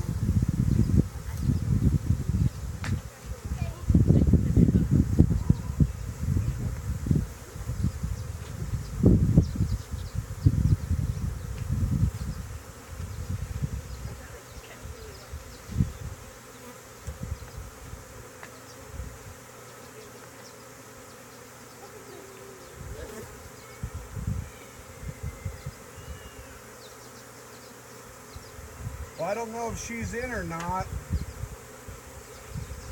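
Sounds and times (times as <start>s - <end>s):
bees buzzing: 0.0s - 32.9s.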